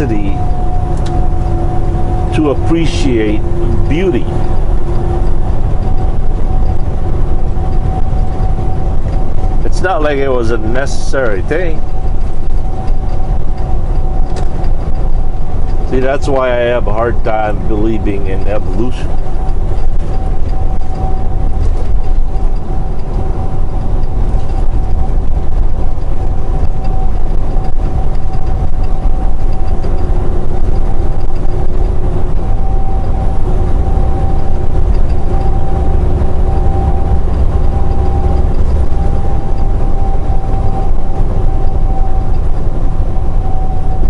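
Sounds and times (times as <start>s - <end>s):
diesel engine drone: 0.0s - 44.0s
road rumble: 0.0s - 44.0s
steady whine: 0.0s - 44.0s.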